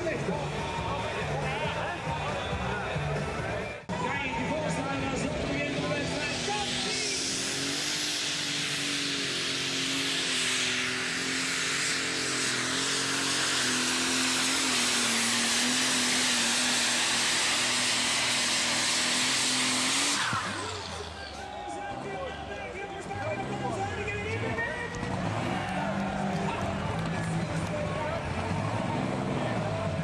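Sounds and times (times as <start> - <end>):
diesel engine running flat out: 0.0 - 30.0.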